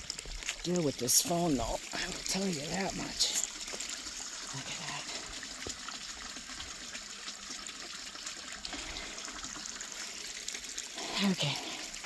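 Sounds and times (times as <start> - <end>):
water rushing down waterfall: 0.0 - 12.0.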